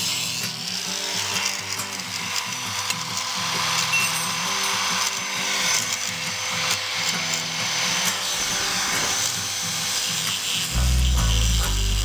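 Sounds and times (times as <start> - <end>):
angle grinder grinding steel: 0.0 - 12.0.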